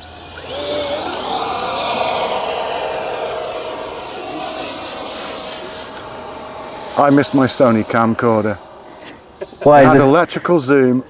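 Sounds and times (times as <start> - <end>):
model jet fan high whine: 0.0 - 11.0.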